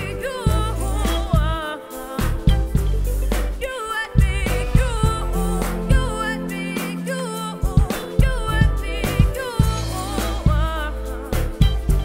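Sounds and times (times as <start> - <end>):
bass guitar: 0.0 - 12.0
woman singing: 0.0 - 12.0.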